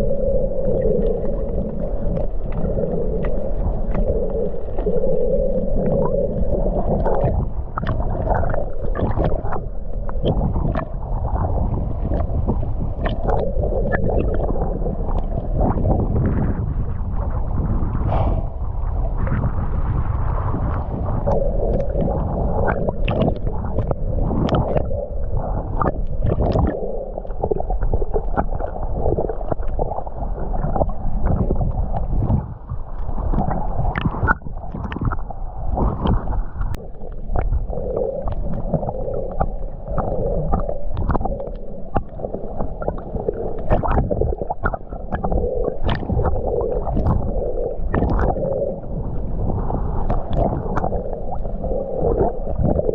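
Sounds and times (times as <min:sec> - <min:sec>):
muffled underwater gurgling: 0:00.0 - 0:52.9.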